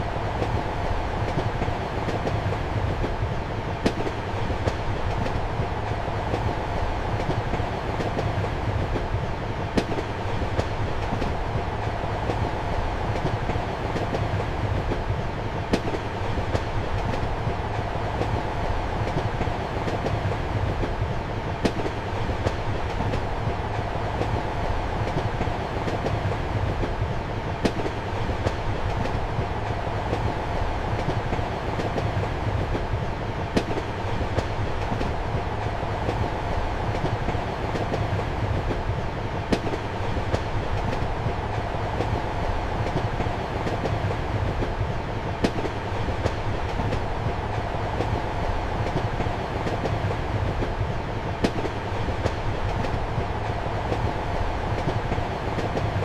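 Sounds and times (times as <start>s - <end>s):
train carriage rumble and hum: 0.0s - 56.0s.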